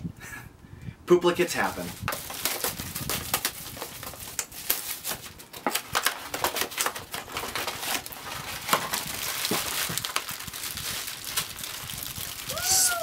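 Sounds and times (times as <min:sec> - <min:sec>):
foil wrappers crinkling: 0:01.8 - 0:13.0.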